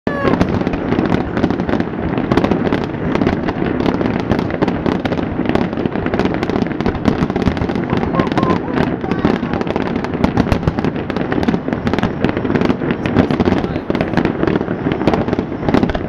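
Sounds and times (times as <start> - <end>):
fireworks bangs and crackles: 0.1 - 16.0.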